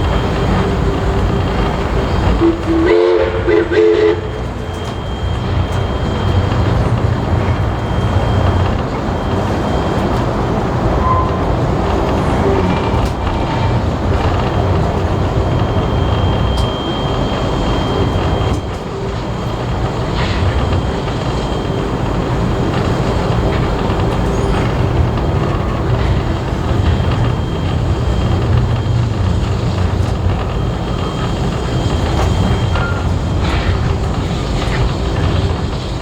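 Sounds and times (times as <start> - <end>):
train carriage rolling on rails: 0.0 - 36.0.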